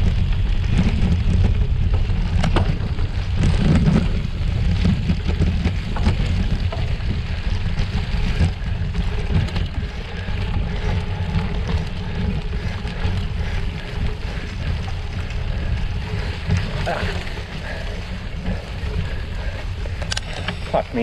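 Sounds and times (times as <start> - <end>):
bike knocks and rattles: 0.0 - 21.0
bike tyre noise: 0.0 - 21.0
wind buffeting microphone: 0.0 - 21.0.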